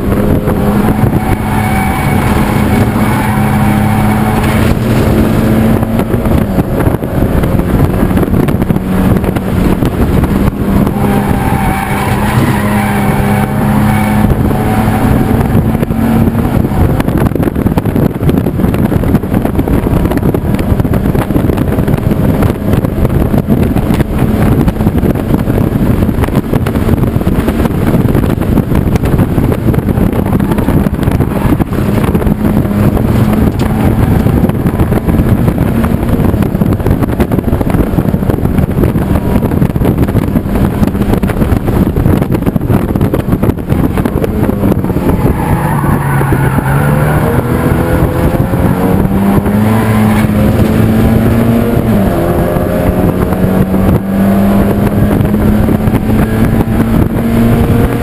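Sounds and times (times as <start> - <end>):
race car engine running hard: 0.0 - 58.0
wind and road noise: 0.0 - 58.0.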